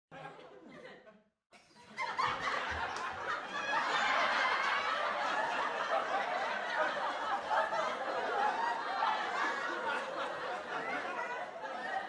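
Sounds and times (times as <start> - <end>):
studio audience laughing: 0.1 - 12.0.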